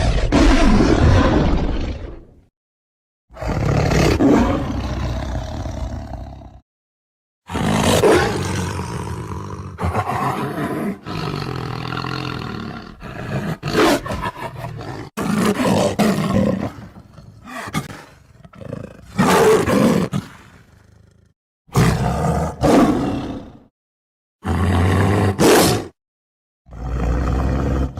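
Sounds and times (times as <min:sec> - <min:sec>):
tiger roaring and growling: 0:00.0 - 0:02.4, 0:03.3 - 0:06.6, 0:07.5 - 0:23.7, 0:24.4 - 0:26.0, 0:26.7 - 0:27.9.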